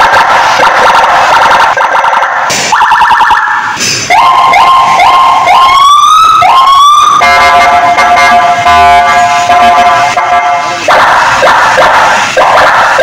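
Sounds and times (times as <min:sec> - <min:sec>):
electronic siren switching tones: 0:00.0 - 0:13.0.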